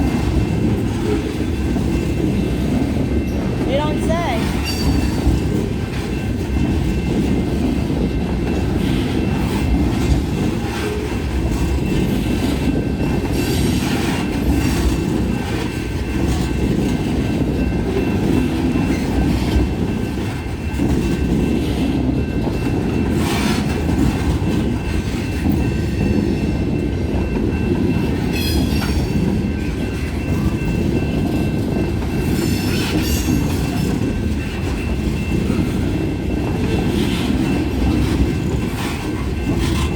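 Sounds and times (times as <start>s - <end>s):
freight train cars rumbling: 0.0s - 39.9s
train clanks: 0.0s - 39.9s.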